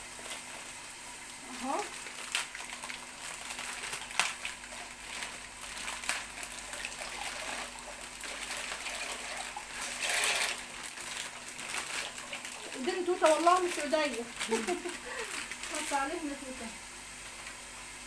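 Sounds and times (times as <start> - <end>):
water boiling in a pot: 0.0 - 18.0.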